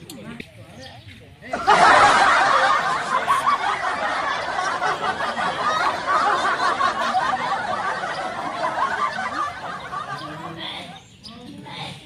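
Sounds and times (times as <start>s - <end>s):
crowd chattering: 0.0s - 12.0s.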